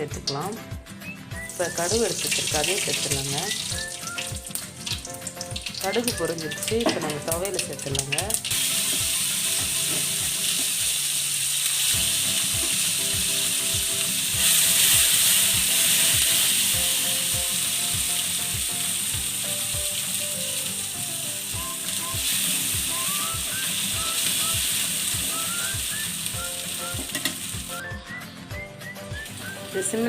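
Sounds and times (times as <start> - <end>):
hot oil sizzling: 1.4 - 27.9, 28.8 - 30.0.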